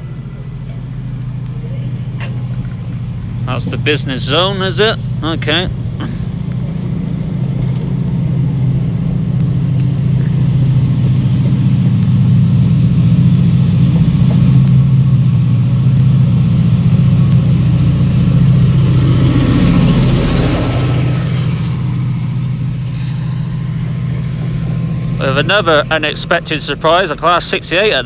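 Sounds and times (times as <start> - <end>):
diesel locomotive passing: 0.0 - 28.0.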